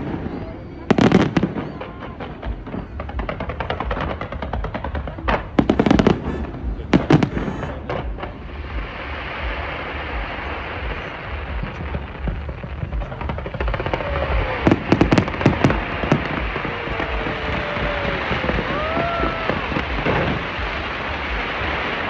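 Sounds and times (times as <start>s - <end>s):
firework bangs: 0.0s - 22.0s
fireworks crackling: 0.0s - 22.0s.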